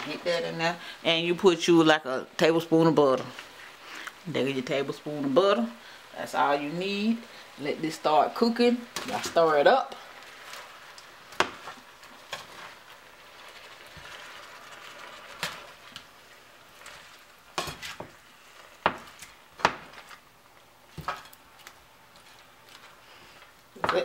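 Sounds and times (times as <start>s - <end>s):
shrimp sizzling in a frying pan: 0.0s - 24.0s.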